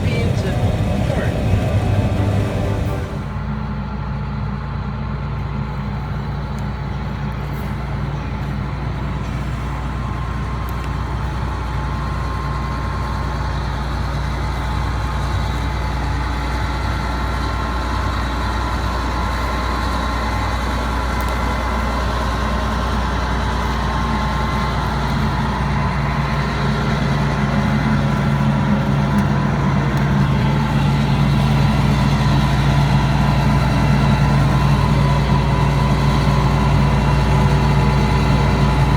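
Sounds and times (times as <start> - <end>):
faint engine whine: 0.0 - 38.9
heavy diesel engine droning: 0.0 - 38.9.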